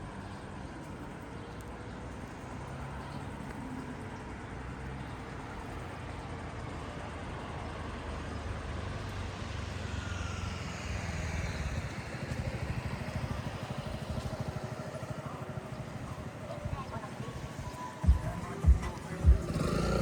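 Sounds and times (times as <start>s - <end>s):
vehicle engine rumble passing: 0.0s - 20.0s.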